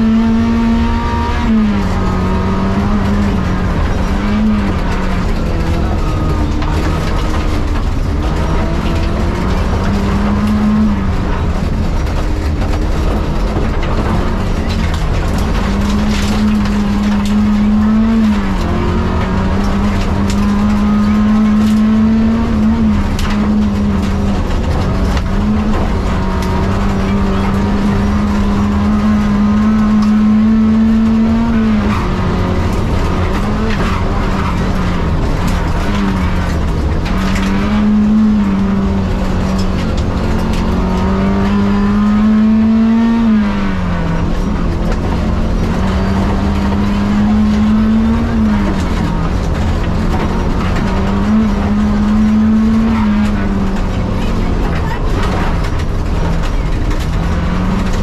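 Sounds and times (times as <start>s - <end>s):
car engine revving high: 0.0s - 58.0s
tyres rumbling on dirt road: 0.0s - 58.0s.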